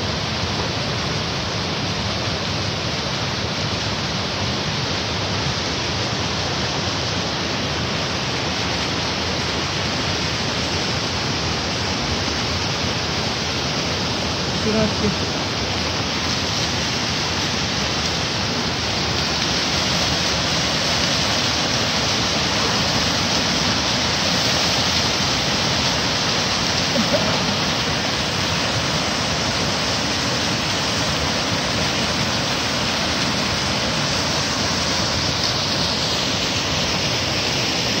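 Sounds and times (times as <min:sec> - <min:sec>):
waterfall rushing over rocks: 0:00.0 - 0:38.0.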